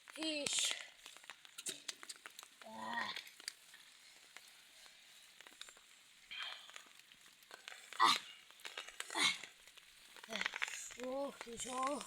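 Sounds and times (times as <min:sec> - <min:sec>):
faint crackling: 0:00.0 - 0:12.0.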